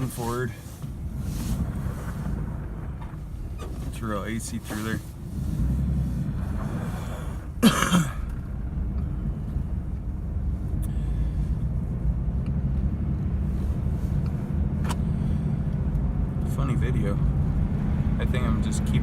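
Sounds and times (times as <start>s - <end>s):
pickup truck rumble inside cab: 0.0s - 19.0s.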